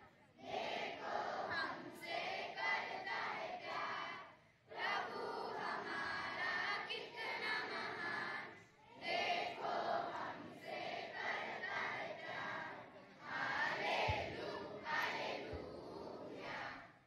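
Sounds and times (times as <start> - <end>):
children chanting in unison: 0.0 - 17.0.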